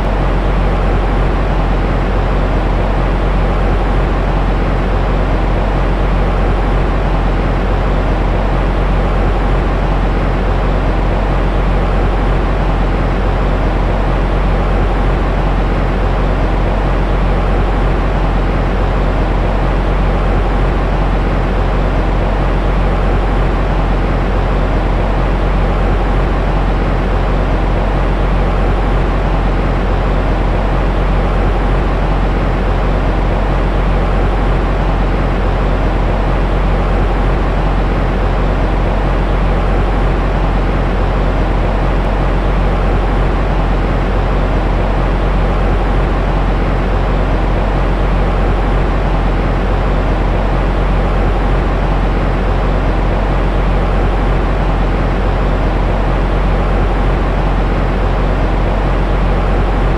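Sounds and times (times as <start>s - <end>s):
faint steady hum: 0.0s - 59.9s
rumbling white noise hiss: 0.0s - 59.9s.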